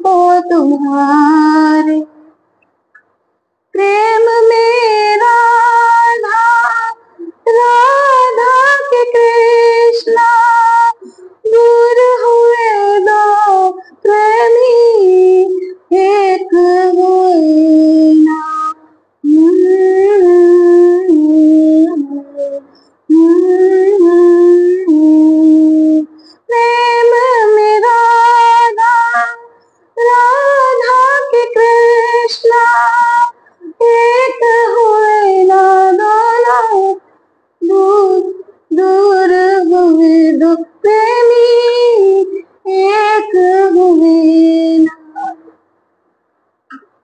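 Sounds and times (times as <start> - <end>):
woman singing unaccompanied: 0.0 - 2.3, 3.8 - 37.0, 37.6 - 45.4.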